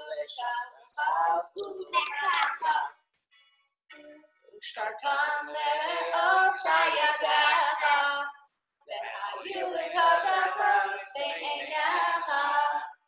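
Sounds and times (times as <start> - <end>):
woman singing over video call: 0.0 - 2.9, 3.9 - 13.0.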